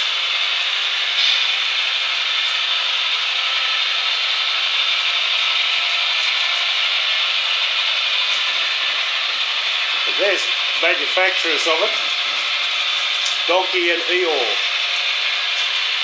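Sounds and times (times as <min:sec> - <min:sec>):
model train wheels rumbling on track: 0:00.1 - 0:16.0.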